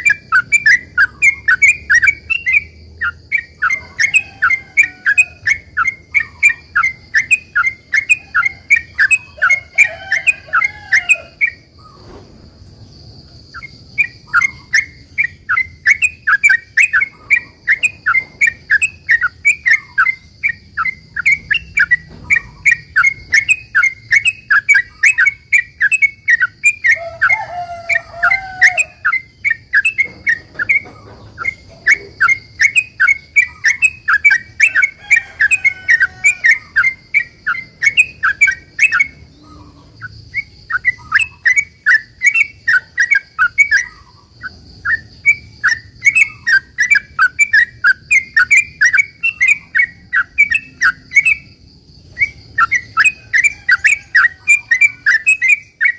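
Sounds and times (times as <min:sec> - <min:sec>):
bird singing chattering notes: 0:00.0 - 0:12.1, 0:13.3 - 0:55.9.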